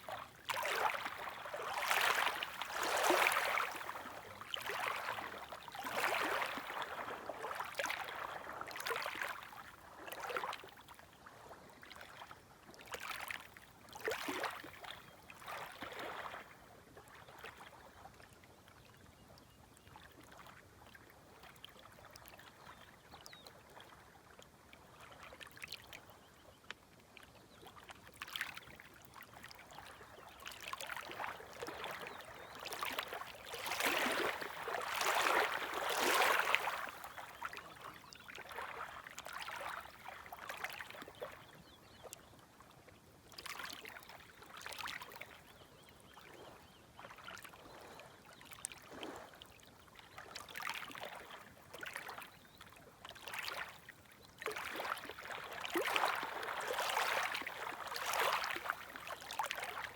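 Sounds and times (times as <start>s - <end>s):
small waves lapping at shore: 0.0s - 59.9s.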